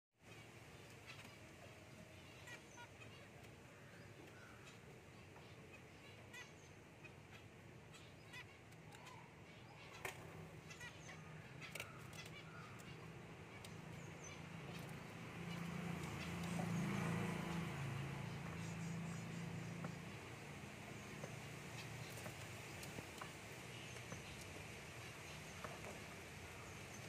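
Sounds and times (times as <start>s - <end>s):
finches honking calls: 0.2s - 27.0s.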